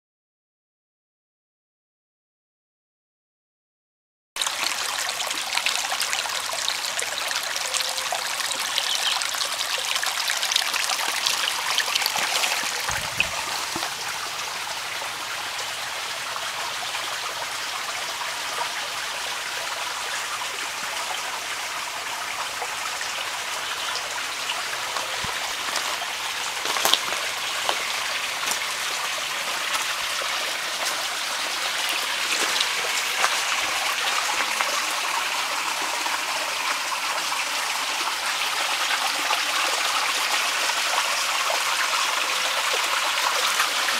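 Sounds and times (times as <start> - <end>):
stream trickling over rocks: 4.4 - 43.9.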